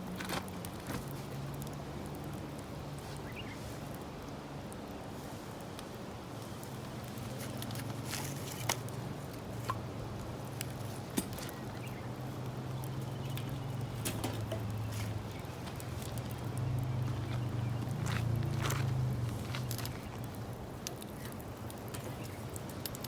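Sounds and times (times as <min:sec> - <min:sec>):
fire low rumble: 0:00.0 - 0:23.0
wood fire crackling and popping: 0:00.0 - 0:23.0.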